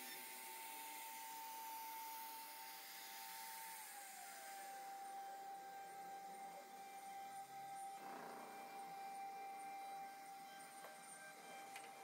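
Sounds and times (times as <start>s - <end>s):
router spindle whine: 0.0s - 12.0s.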